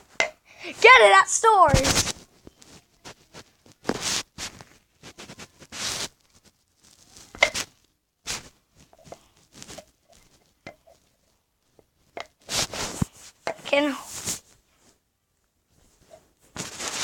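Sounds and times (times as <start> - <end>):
materials and containers handled: 0.0 - 14.8, 15.8 - 17.0.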